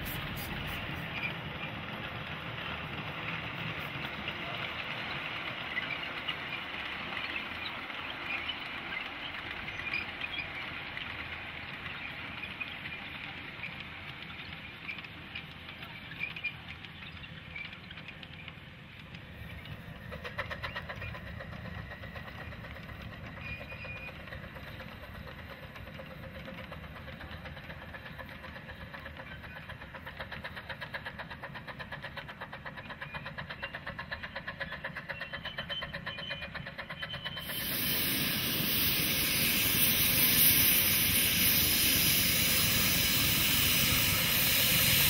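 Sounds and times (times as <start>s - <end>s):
steam train running: 0.0s - 45.0s.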